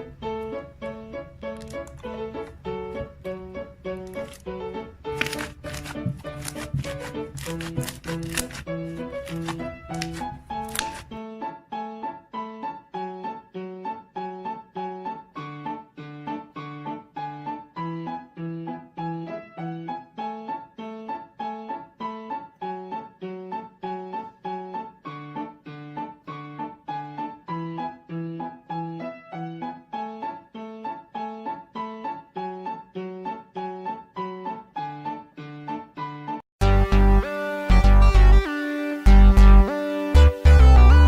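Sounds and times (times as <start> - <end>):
piano melody: 0.0 - 41.0.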